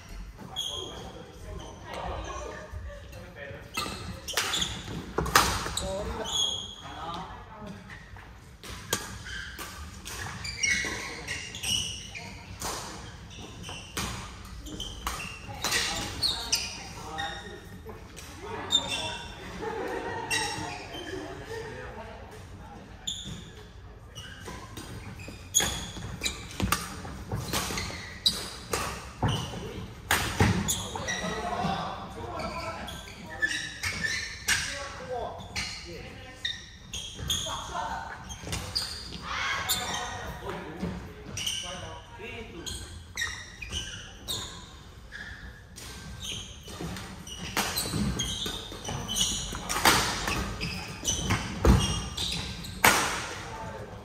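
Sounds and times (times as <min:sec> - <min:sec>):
shoe squeaks on court: 0:03.6 - 0:07.1, 0:08.8 - 0:17.8, 0:18.7 - 0:19.4, 0:20.3 - 0:21.4, 0:23.0 - 0:40.5, 0:41.2 - 0:52.9.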